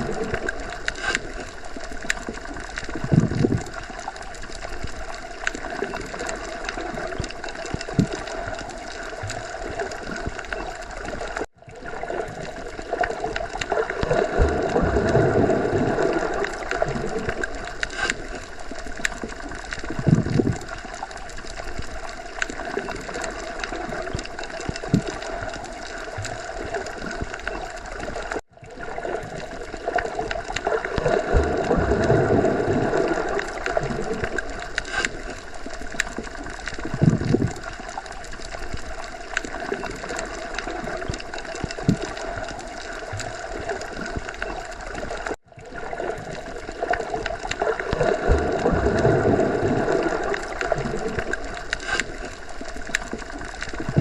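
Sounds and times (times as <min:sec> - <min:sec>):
low underwater rumbles: 0:00.0 - 0:54.0.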